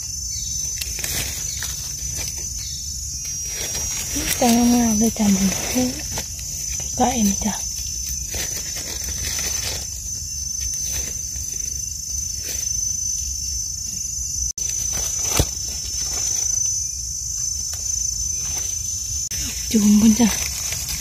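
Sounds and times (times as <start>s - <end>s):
forest insects droning: 0.0s - 21.0s
leaf litter rustling: 0.7s - 13.2s, 14.6s - 21.0s.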